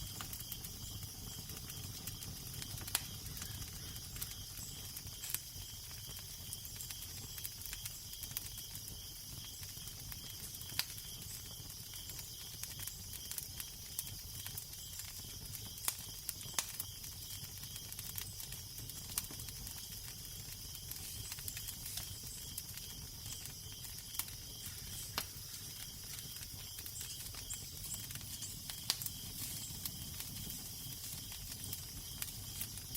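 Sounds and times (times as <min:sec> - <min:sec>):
fire crackling: 0:00.0 - 0:32.9.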